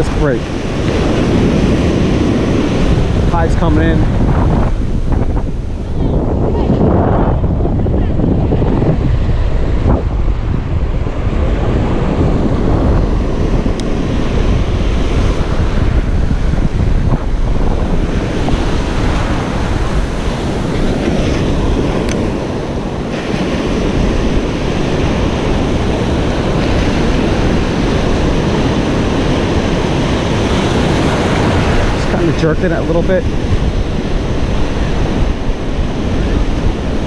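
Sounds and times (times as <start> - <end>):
ocean surf breaking: 0.0 - 37.0
wind buffeting the microphone: 0.0 - 37.0.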